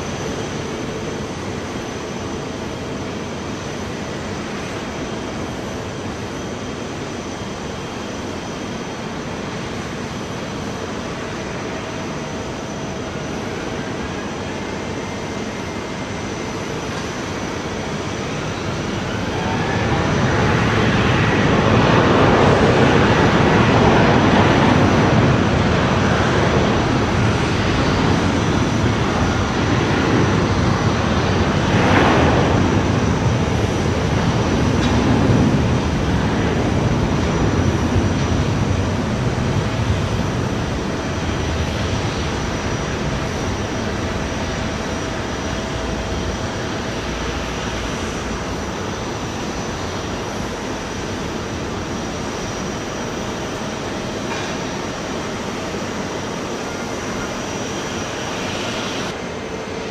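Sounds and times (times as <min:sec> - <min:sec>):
faint steady whine: 0:00.0 - 0:59.9
jet engine rushing: 0:00.0 - 0:59.9.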